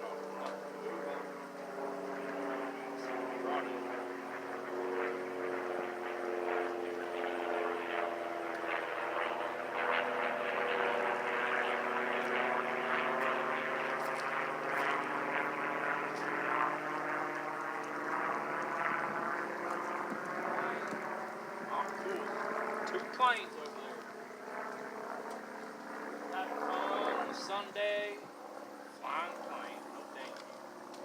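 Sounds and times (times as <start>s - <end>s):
propeller airplane engine droning: 0.0s - 31.0s.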